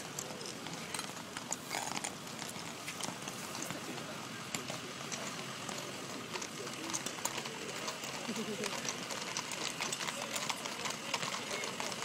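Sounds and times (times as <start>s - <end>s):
indistinct crowd voices: 0.0s - 12.0s.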